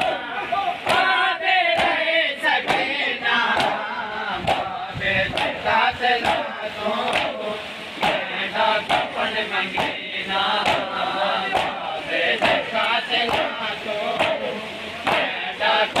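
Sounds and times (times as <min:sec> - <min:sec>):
crowd of men chanting: 0:00.0 - 0:16.0.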